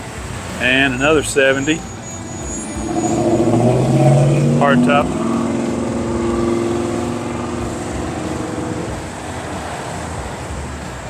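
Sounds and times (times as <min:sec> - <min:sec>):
street noise: 0:00.0 - 0:11.0
passing car engine: 0:00.7 - 0:10.2.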